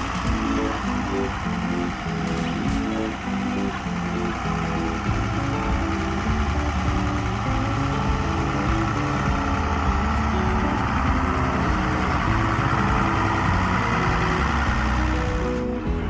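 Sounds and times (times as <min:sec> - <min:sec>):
background music: 0:00.0 - 0:16.0
engine running steadily: 0:00.0 - 0:16.0.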